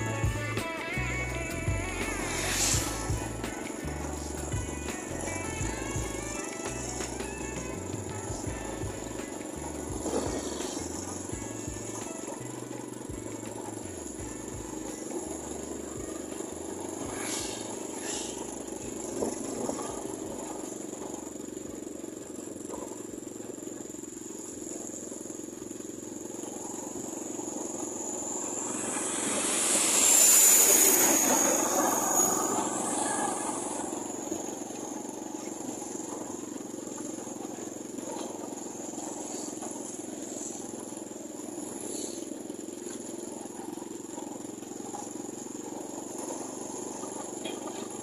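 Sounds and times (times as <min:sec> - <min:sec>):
vehicle passing with whine: 0:00.0 - 0:21.7, 0:26.2 - 0:48.0
road and engine noise: 0:00.0 - 0:48.0.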